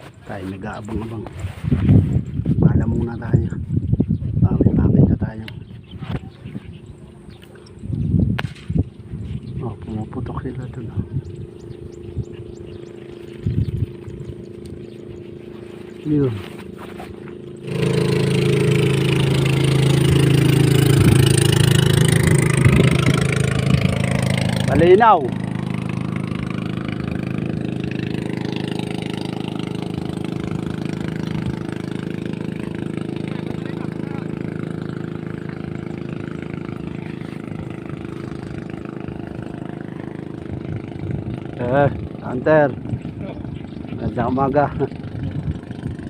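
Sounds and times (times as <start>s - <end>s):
small engine running: 6.5s - 46.0s.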